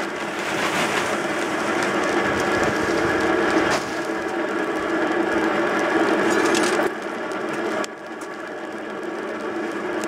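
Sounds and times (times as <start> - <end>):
forge air blower whirring: 0.0 - 10.0.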